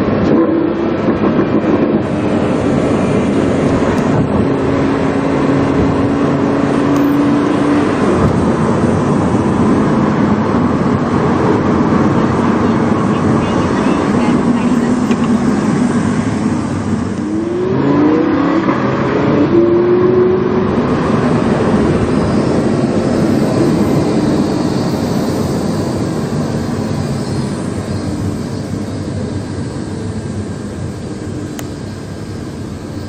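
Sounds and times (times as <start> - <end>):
car engine accelerating: 0.0 - 33.0
road noise: 0.0 - 33.0.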